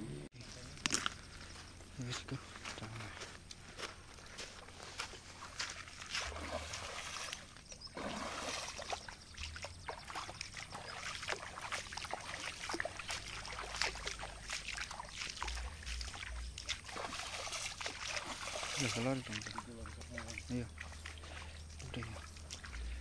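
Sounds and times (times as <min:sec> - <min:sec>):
footsteps wading through stream: 0:00.4 - 0:23.0
water splashing: 0:04.4 - 0:23.0.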